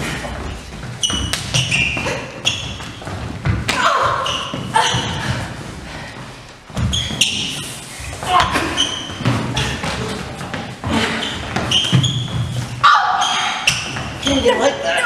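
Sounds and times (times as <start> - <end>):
shoes squeaking: 0.0 - 15.0.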